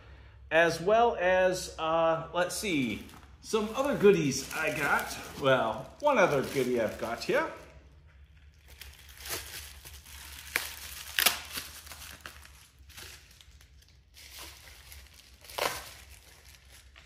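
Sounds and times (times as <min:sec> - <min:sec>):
plastic bag crinkling and tearing: 0:02.7 - 0:17.0.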